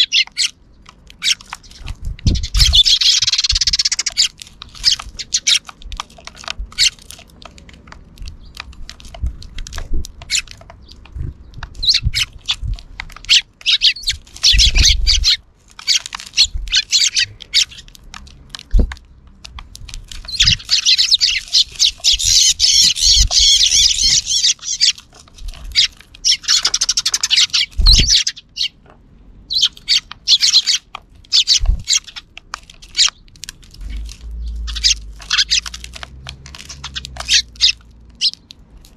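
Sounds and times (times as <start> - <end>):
sparrows chirping and chattering: 0.0 - 38.9.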